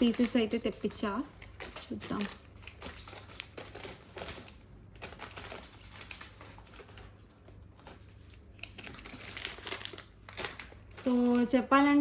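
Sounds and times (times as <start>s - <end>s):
jewellery packets clicking and rustling: 0.0s - 11.6s.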